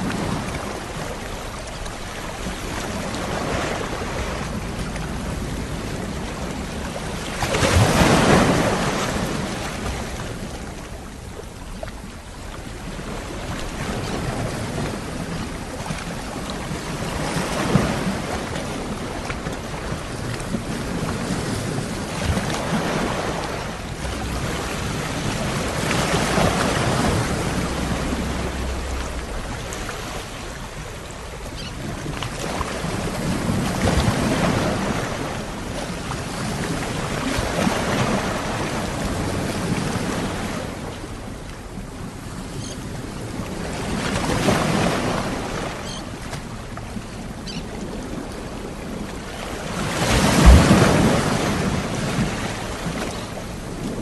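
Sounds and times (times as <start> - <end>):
sea waves washing onto shore: 0.0 - 54.0.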